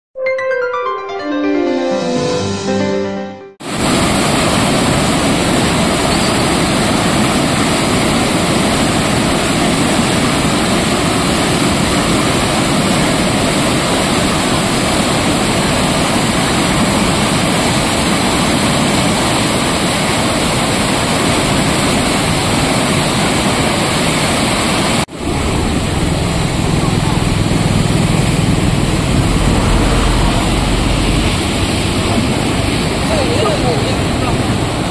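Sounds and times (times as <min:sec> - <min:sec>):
floodwater rushing over rapids: 0:03.6 - 0:34.9.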